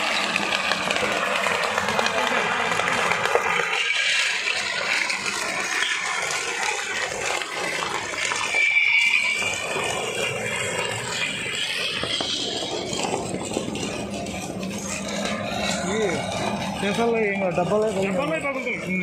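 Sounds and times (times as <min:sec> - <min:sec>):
high squeal: 0:03.6 - 0:19.0.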